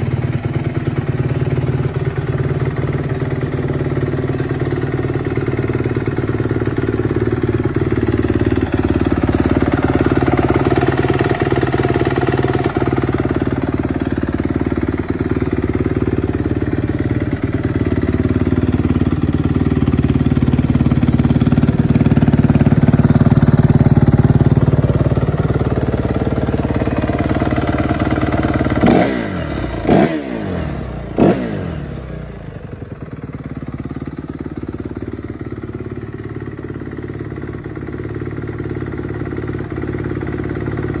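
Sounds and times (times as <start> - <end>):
dirt bike engine idling and revving: 0.0 - 41.0.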